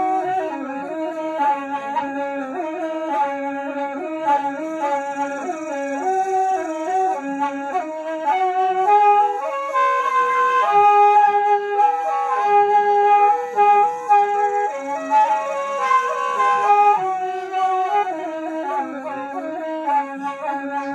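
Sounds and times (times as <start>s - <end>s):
bamboo flute slow melody: 0.0s - 20.9s.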